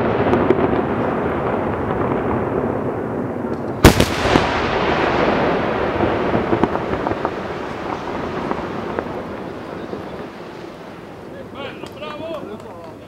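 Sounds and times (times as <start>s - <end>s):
noisy rumble: 0.0s - 13.0s
scattered firework pops: 0.0s - 13.0s.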